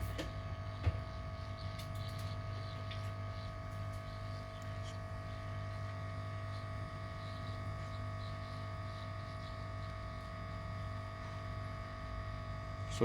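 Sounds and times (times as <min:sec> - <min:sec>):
deep electrical hum: 0:00.0 - 0:13.0.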